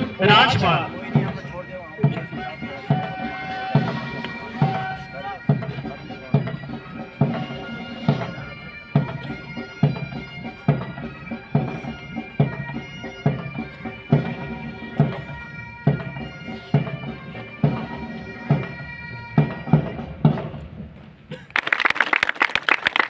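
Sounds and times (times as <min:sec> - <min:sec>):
bagpipes playing a march: 0:00.0 - 0:20.4.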